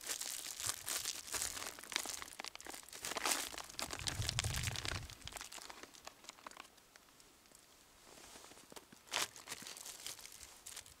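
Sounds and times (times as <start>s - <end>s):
rustling and crinkling handling: 0.0s - 11.0s.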